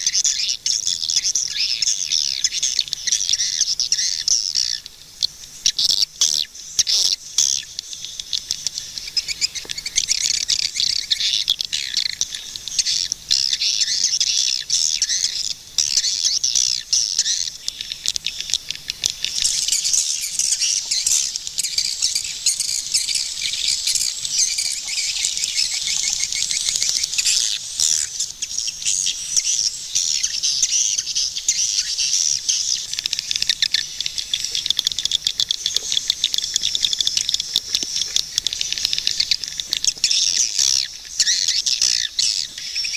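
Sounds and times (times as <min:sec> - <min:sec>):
swiftlets twittering and chirping: 0:00.0 - 0:42.9.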